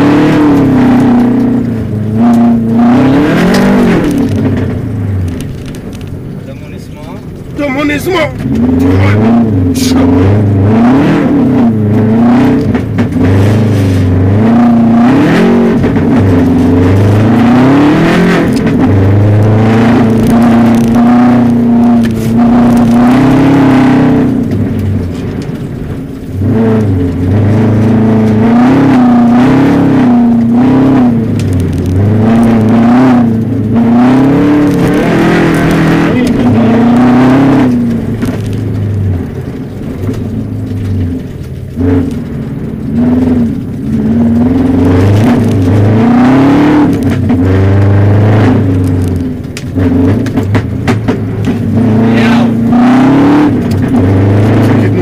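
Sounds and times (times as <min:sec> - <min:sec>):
car engine revving inside cabin: 0:00.0 - 0:55.0.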